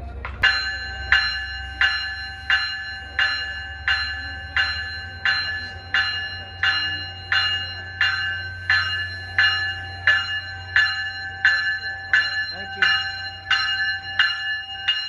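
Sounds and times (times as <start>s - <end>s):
train warning bell ringing: 0.0s - 15.0s.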